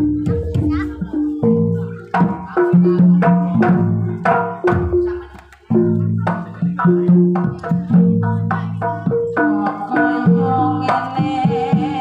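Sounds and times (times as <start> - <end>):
drum strokes: 0.0 - 12.0.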